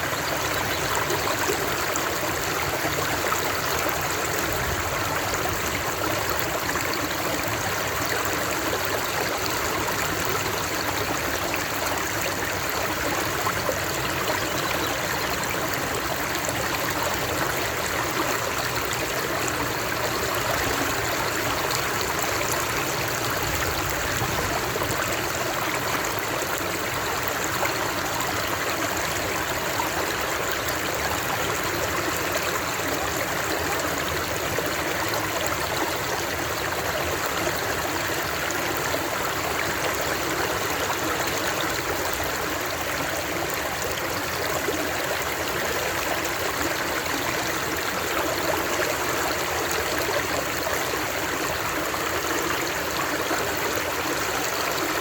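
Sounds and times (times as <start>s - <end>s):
water flowing and splashing: 0.0s - 55.0s.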